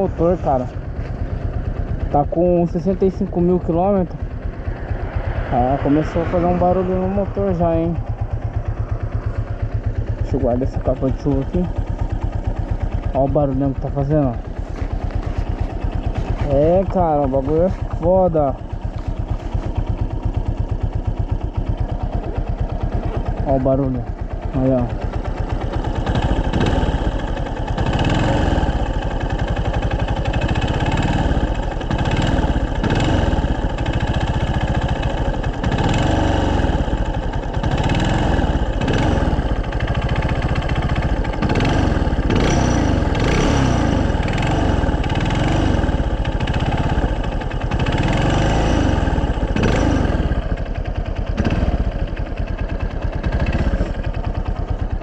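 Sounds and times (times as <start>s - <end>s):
engine knocking: 0.0s - 55.0s
motorcycle engine revving: 0.0s - 55.0s.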